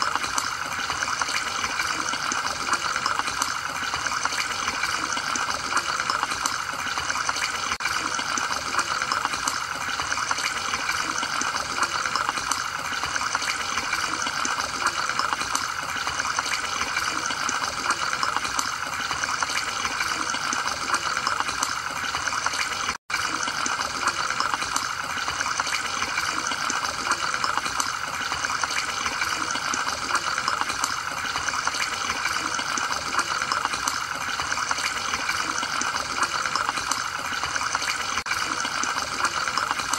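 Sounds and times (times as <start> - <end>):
aquarium filter water rushing: 0.0 - 39.9
fine bubbling: 0.0 - 39.9.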